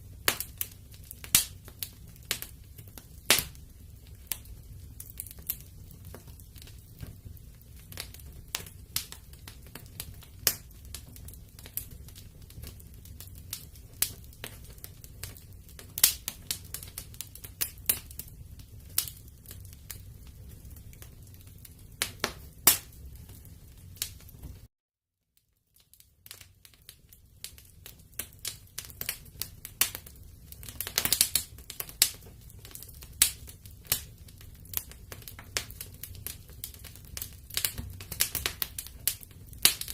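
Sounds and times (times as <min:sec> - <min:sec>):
low rumble of flame: 0:00.0 - 0:24.7, 0:26.0 - 0:39.9
wood fire crackling and popping: 0:00.0 - 0:24.7, 0:25.6 - 0:39.9.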